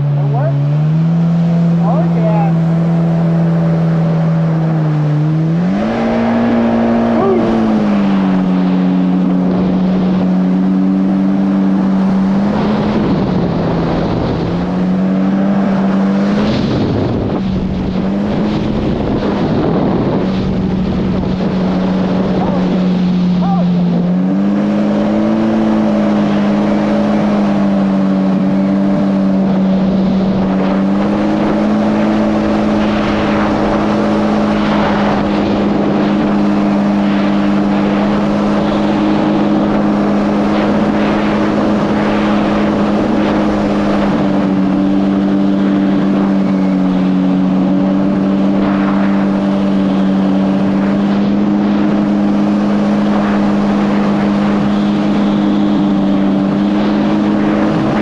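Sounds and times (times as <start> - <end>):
jet ski engine running hard: 0.0 - 58.0
water rushing and spraying: 0.0 - 58.0.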